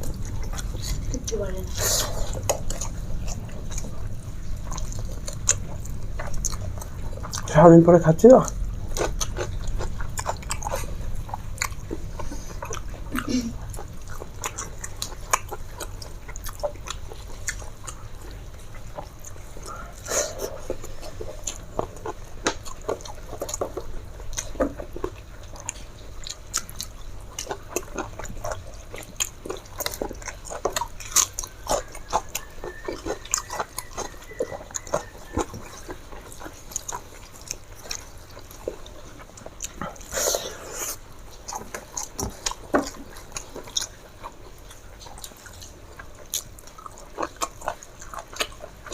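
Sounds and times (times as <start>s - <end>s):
person chewing with wet smacks: 0.0s - 48.9s.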